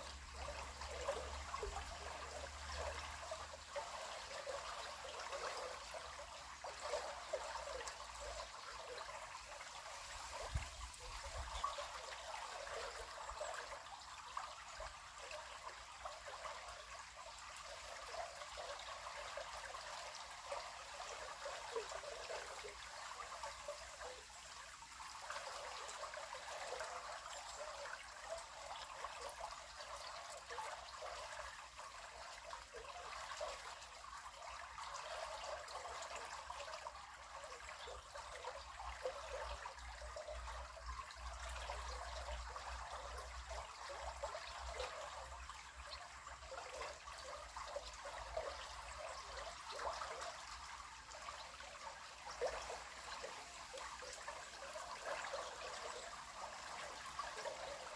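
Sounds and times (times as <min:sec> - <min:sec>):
river water babbling: 0:00.0 - 0:57.9.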